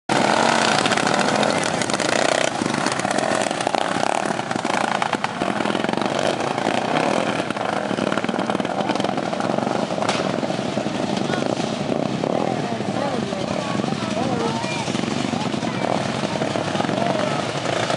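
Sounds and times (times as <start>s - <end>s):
small engines running hard: 0.1s - 17.9s.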